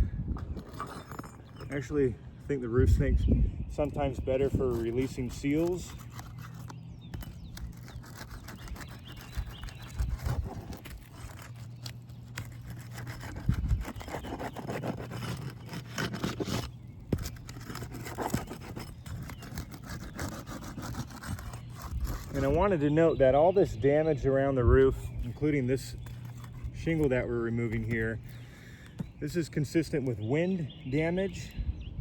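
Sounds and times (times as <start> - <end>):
roof snake scraping under shingles: 0.4 - 30.9.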